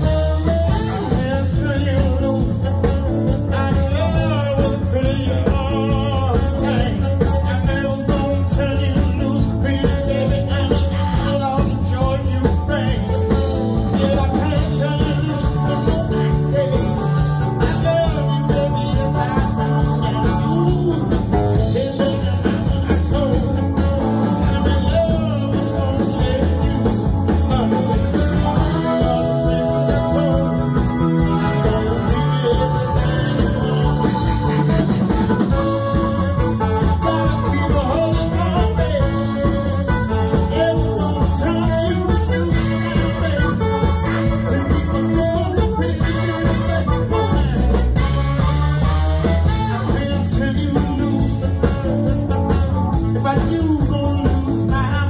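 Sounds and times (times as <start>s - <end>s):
drums: 0.0s - 55.0s
electric bass: 0.0s - 55.0s
man singing: 0.0s - 55.0s
saxophone: 0.0s - 55.0s.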